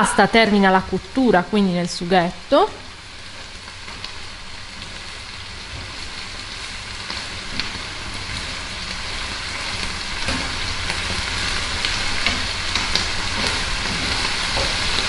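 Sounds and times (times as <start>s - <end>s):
pasta sizzling in frying pan: 0.0s - 15.0s.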